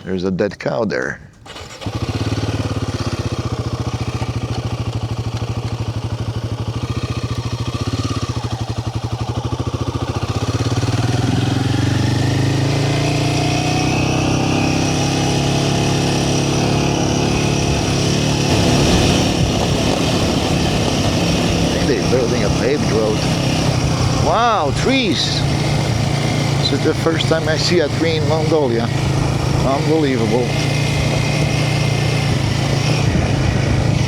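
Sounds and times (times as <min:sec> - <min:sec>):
motorcycle engine pulling away: 0:01.4 - 0:34.0.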